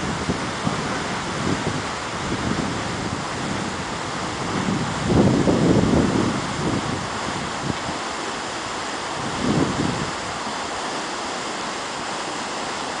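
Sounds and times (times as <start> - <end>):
waterfall rushing onto rocks: 0.0 - 13.0
wind gust on microphone: 0.0 - 13.0.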